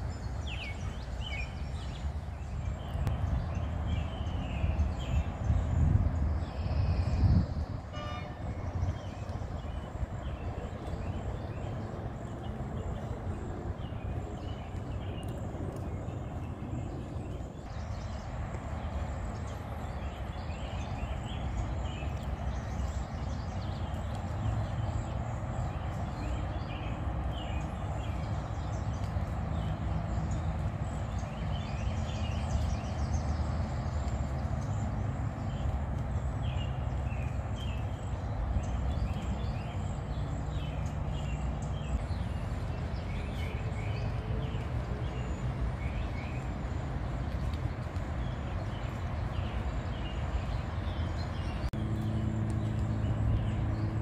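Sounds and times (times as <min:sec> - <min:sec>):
birds chirping: 0:00.0 - 0:54.0
steady low rumble: 0:00.0 - 0:54.0.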